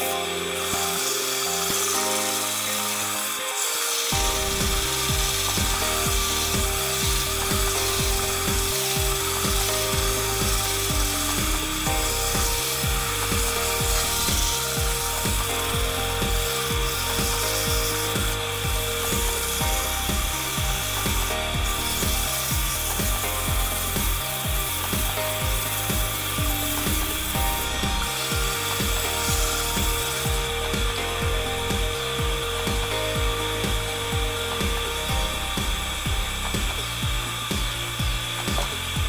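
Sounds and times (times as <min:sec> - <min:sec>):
sandpaper rubbing on spinning wood: 0:00.0 - 0:39.0
wood lathe humming: 0:00.0 - 0:39.0.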